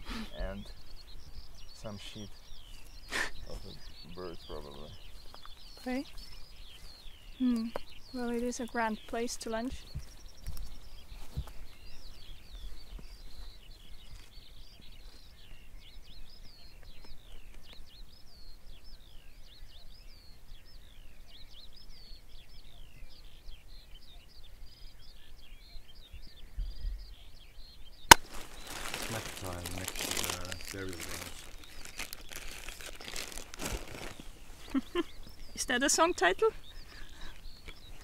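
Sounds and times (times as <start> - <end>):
songbirds chirping and trilling: 0.0 - 38.0.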